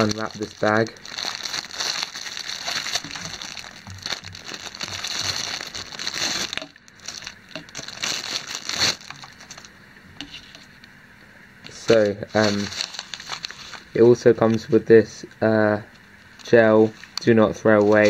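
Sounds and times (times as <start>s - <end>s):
plastic wrapping crinkling: 0.0s - 10.7s, 11.7s - 14.7s, 16.3s - 18.0s.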